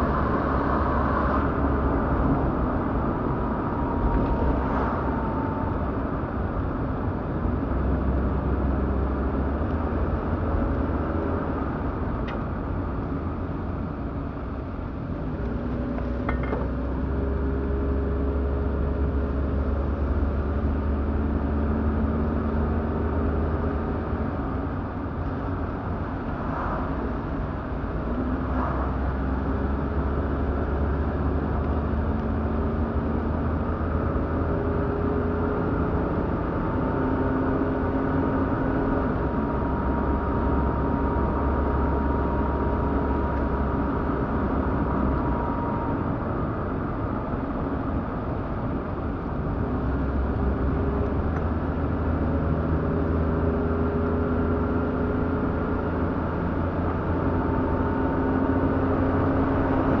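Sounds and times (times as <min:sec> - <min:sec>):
car engine and road noise: 0:00.0 - 1:00.0.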